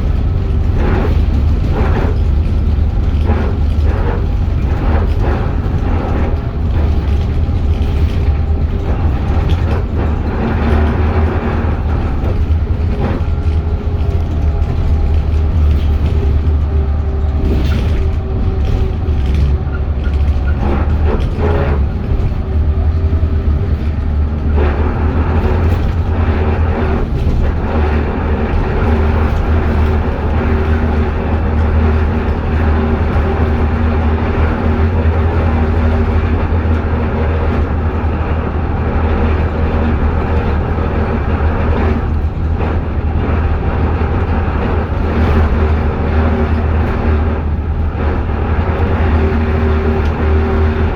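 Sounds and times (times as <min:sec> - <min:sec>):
bus interior low drone: 0:00.0 - 0:50.9
faint drivetrain whine: 0:00.0 - 0:50.9.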